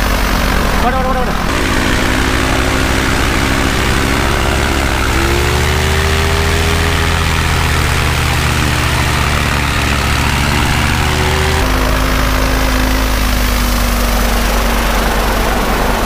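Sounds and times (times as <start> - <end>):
light airplane engine and propeller: 0.0 - 16.0.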